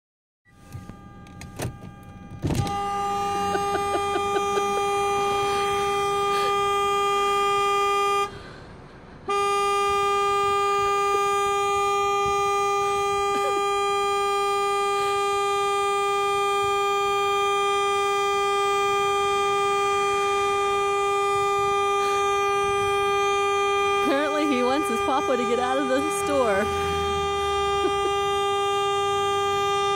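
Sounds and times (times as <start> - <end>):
car horn blasts: 0.5 - 8.4, 9.2 - 29.9.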